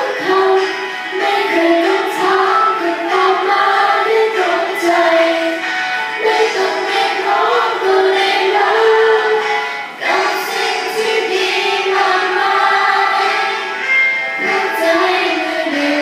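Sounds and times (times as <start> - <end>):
women singing pop song together: 0.0 - 16.0.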